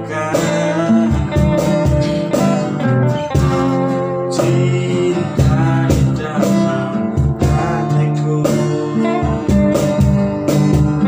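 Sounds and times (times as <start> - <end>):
guitar pop ballad: 0.0 - 11.0
person singing: 0.0 - 11.0.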